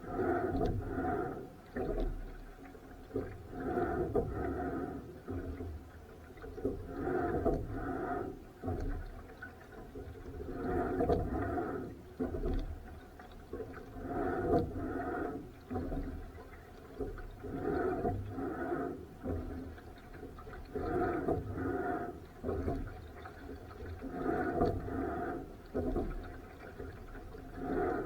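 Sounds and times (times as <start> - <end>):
oars swishing through water: 0.0 - 28.0.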